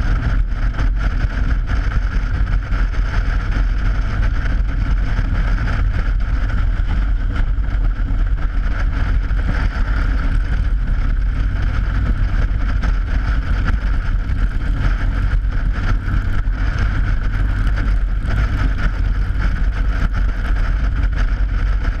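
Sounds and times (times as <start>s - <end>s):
motorcycle engine rumble: 0.0s - 22.0s
wind buffeting microphone: 0.0s - 22.0s.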